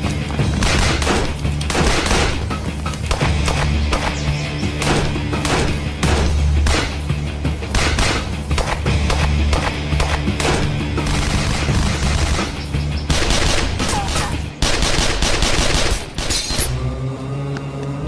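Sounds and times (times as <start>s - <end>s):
dramatic background music: 0.0s - 18.0s
rapid handgun shots: 0.5s - 16.6s.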